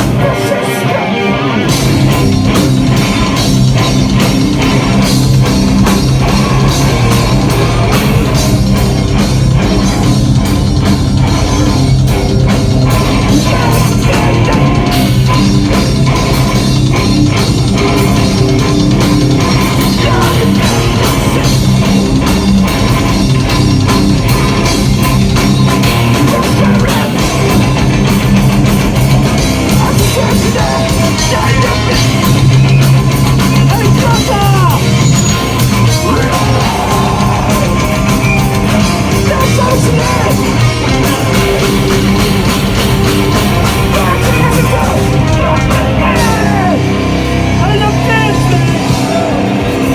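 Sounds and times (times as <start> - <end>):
heavy rock band playing live: 0.0 - 49.9.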